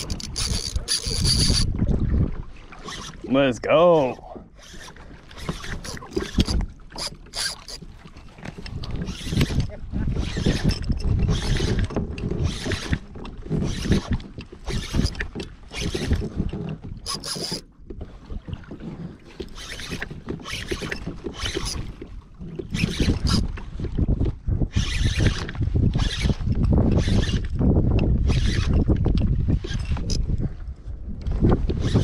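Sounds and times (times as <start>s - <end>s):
water sloshing against hull: 0.0s - 32.0s.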